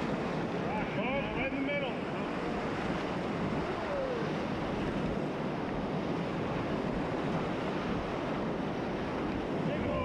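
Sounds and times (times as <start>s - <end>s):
rapids roaring: 0.0s - 10.0s.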